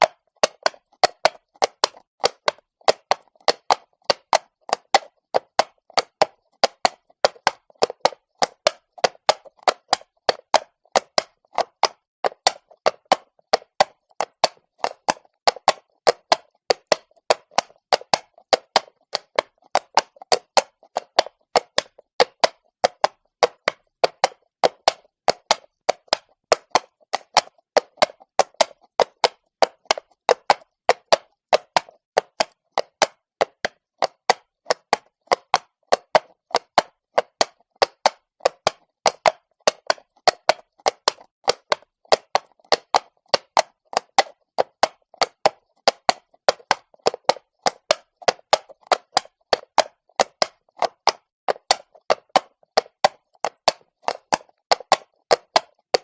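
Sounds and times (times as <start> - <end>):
horse hooves on stone cobbles: 0.0 - 56.0.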